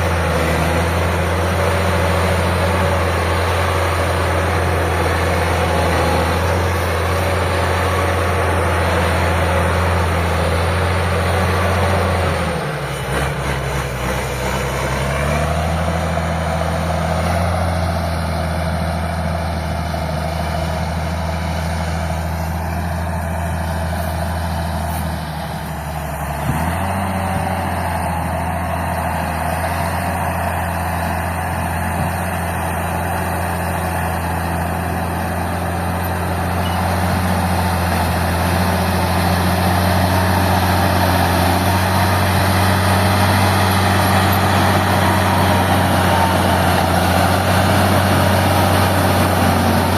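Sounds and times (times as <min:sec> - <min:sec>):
diesel tractor engine rumbling: 0:00.0 - 0:49.9.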